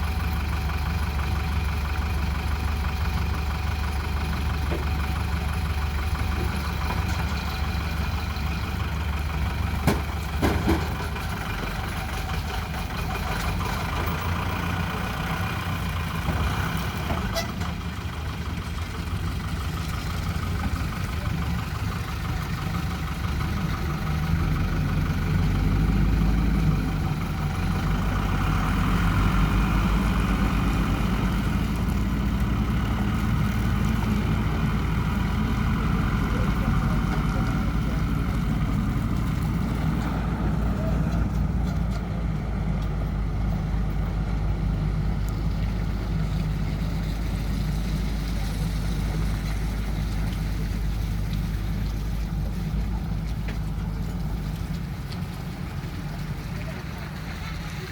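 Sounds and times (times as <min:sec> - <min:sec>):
diesel engines running: 0:00.0 - 0:57.9.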